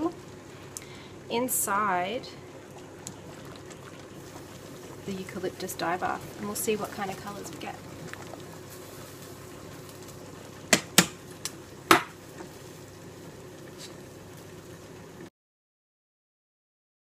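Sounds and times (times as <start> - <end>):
pot simmering: 0.0 - 15.3.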